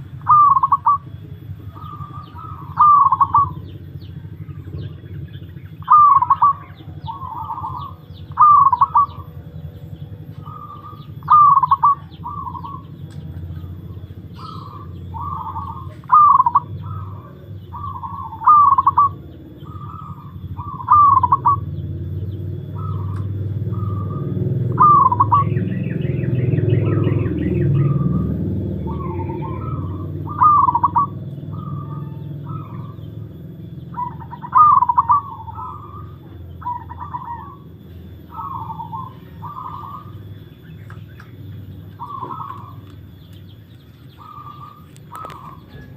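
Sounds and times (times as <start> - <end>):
dove cooing: 0.0 - 45.9
high chirping: 0.0 - 45.9
low background rumble: 0.0 - 45.9.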